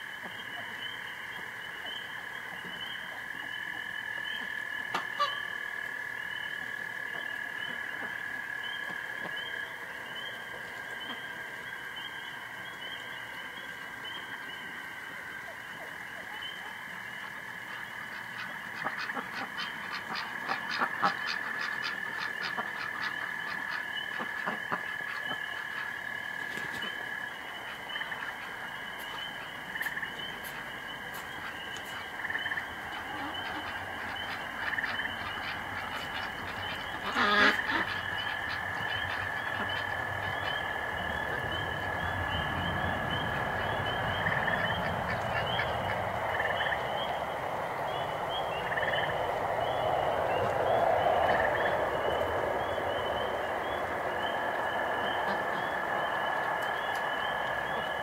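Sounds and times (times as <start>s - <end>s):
frogs calling: 0.0s - 58.0s
rapid pulsed frog call: 0.0s - 58.0s.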